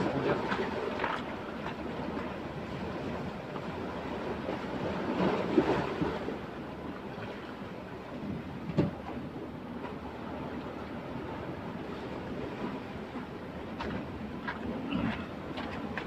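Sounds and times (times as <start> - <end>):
sea waves washing on rocks: 0.0 - 16.0
wind on microphone: 0.0 - 16.0.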